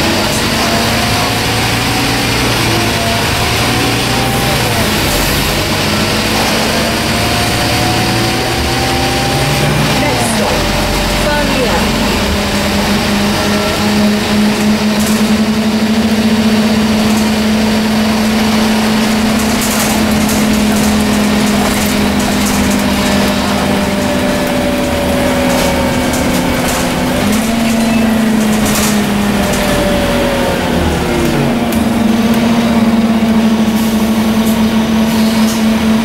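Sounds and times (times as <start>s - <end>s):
interior rattles: 0.0s - 34.8s
bus engine drone and whine: 0.0s - 36.0s.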